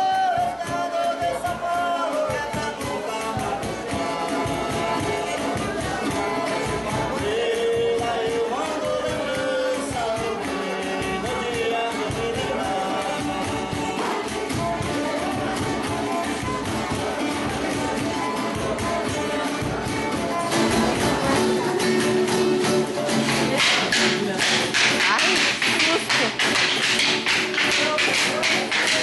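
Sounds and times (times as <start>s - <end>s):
person singing a melody: 0.0s - 26.5s
steady percussion beat: 0.0s - 29.0s.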